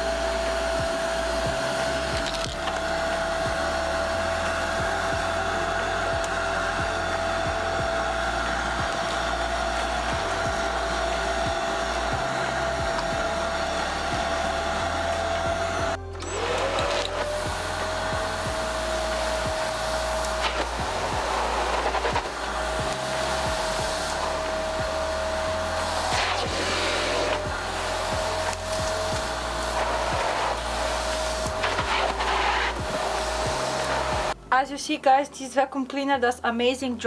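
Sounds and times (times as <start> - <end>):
vacuum cleaner running: 0.0 - 34.5.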